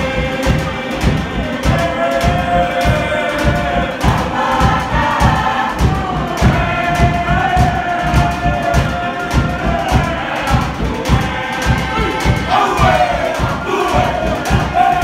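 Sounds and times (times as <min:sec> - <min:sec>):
choir singing long held notes: 0:00.0 - 0:15.0
fast low thumping beat: 0:00.0 - 0:15.0.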